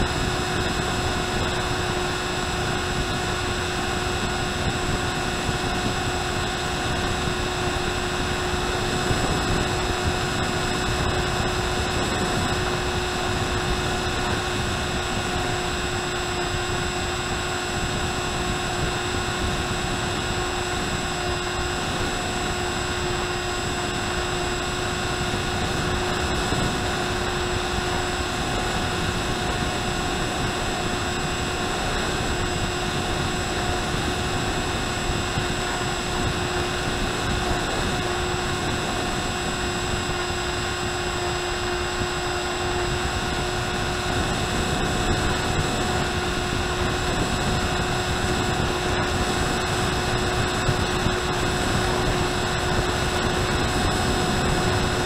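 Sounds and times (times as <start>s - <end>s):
electric motor and propeller whine: 0.0s - 55.0s.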